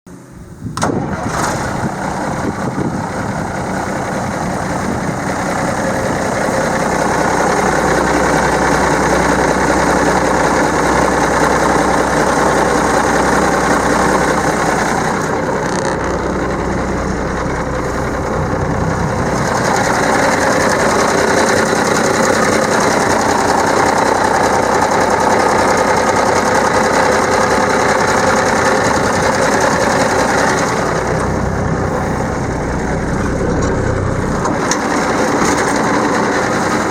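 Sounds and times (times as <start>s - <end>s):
truck diesel engine idling: 0.1s - 36.9s.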